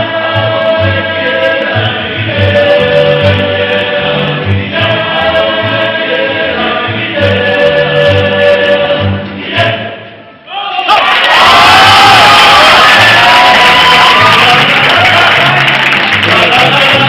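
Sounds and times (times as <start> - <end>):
choir singing held chords: 0.0 - 10.4, 11.4 - 17.0.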